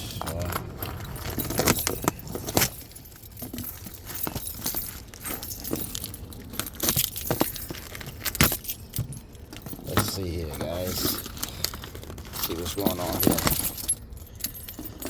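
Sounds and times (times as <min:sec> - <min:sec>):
packaging rustling and crinkling: 0:00.2 - 0:08.6, 0:09.7 - 0:14.0.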